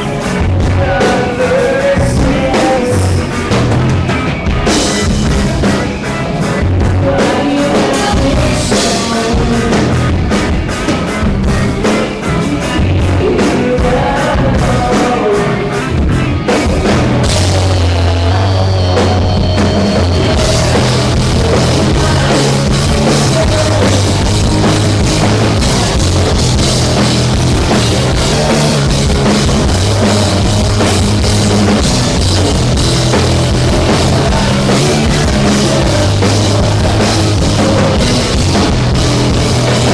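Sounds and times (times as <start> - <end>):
drum kit: 0.0 - 39.9
live rock band playing: 0.0 - 39.9
low bass notes: 0.0 - 39.9.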